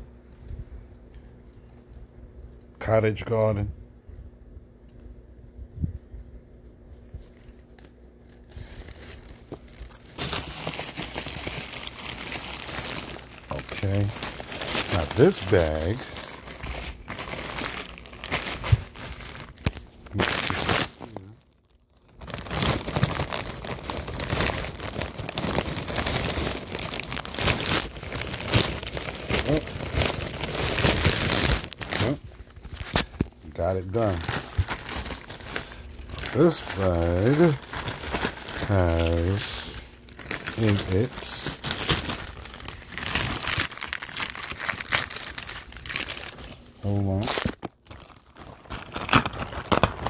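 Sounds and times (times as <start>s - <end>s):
packing peanuts and plastic crinkling: 7.0s - 50.0s.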